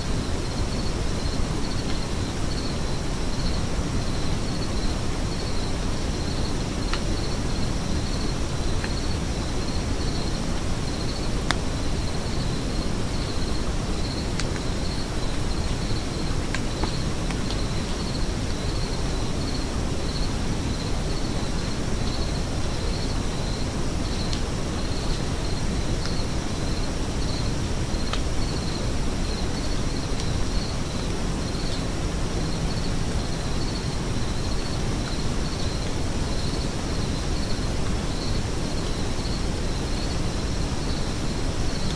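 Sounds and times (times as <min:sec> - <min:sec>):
insect chirping: 0:00.0 - 0:41.9
outdoor hiss: 0:00.0 - 0:41.9.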